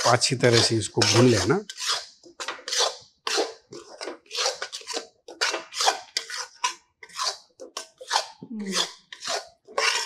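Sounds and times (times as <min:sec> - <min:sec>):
metal spatula scraping a pan: 0:00.0 - 0:10.0.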